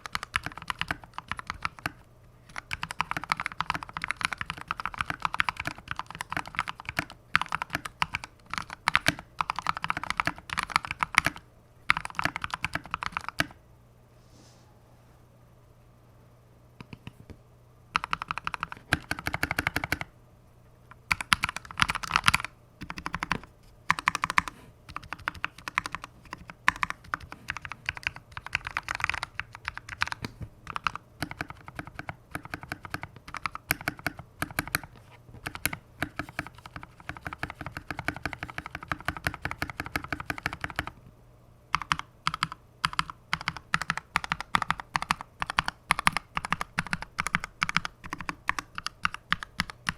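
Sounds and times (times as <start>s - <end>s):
mechanical keyboard typing: 0.0s - 13.6s, 17.9s - 20.1s, 21.0s - 41.0s, 41.7s - 49.9s.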